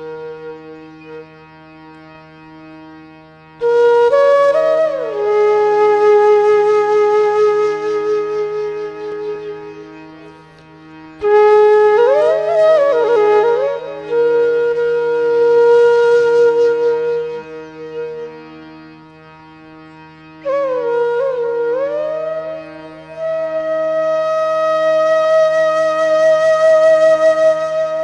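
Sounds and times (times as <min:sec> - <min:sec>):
low drone: 0:00.0 - 0:28.0
ornamented melody: 0:00.0 - 0:28.0.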